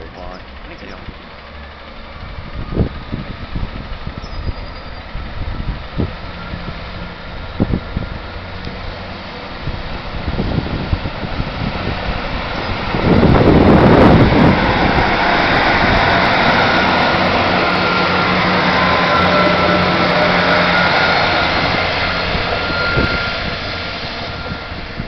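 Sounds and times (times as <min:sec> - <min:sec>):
diesel train accelerating past: 0:00.0 - 0:25.0.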